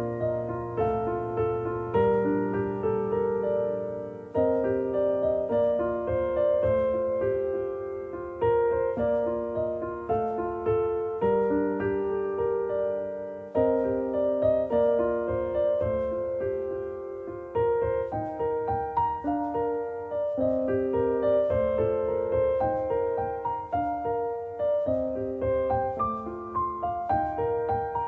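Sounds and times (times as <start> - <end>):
soft solo piano melody: 0.0 - 28.0.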